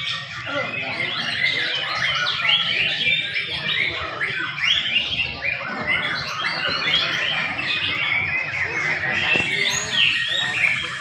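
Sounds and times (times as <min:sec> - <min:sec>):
birds whistling and chirping: 0:00.0 - 0:11.0.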